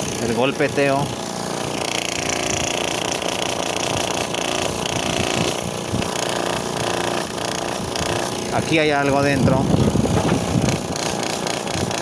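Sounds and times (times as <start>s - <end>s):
compressor running: 0.0s - 12.0s.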